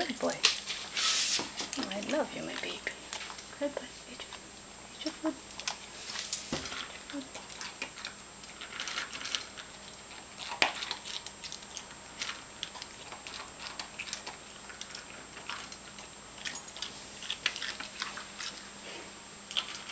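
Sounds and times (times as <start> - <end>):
dog crunching kibble in metal bowl: 1.7 - 4.4, 5.6 - 18.7, 19.5 - 19.9.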